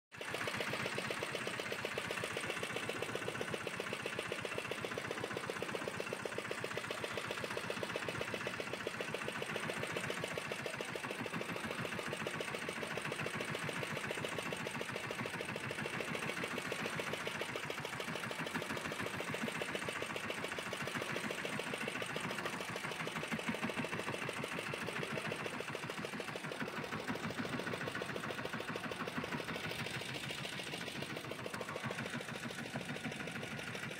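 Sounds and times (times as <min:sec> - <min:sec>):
boat engine running: 0:00.2 - 0:33.9.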